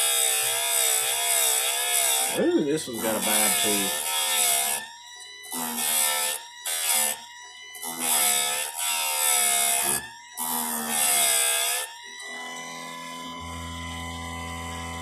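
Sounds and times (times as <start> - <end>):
grinding wheel rasping on chain: 0.0 - 4.9, 7.8 - 15.0
sharpener motor whining: 0.0 - 15.0.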